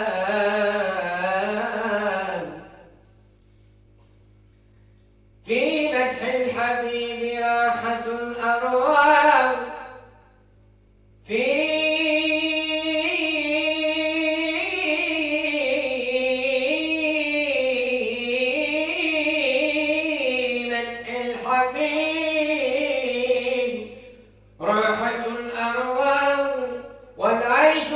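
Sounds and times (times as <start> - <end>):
man singing devotional chant: 0.0 - 2.8, 5.4 - 10.0, 11.3 - 27.9.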